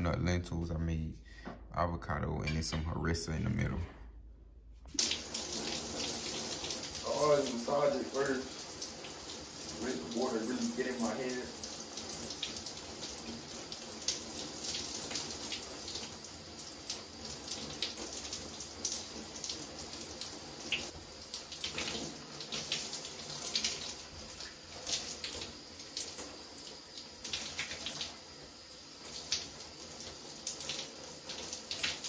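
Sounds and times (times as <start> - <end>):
shower spray splashing: 4.9 - 32.0.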